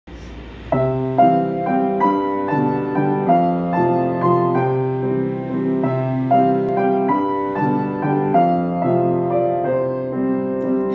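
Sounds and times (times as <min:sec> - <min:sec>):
solo piano melody: 0:00.2 - 0:10.9.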